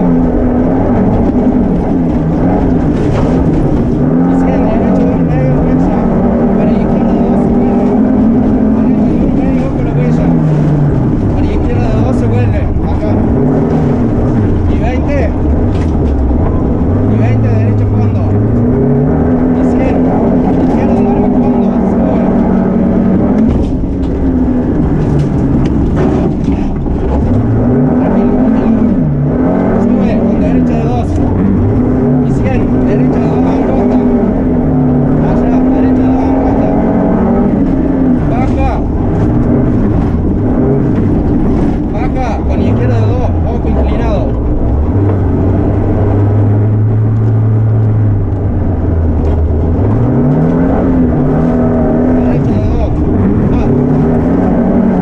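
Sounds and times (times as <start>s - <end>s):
rally car engine at speed: 0.0s - 55.0s.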